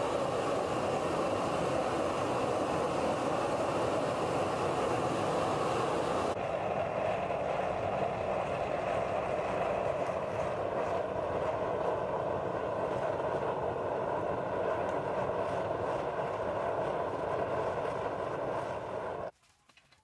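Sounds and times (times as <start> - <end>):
high hiss of fan: 0.0 - 19.3
rushing flame noise: 0.0 - 19.3.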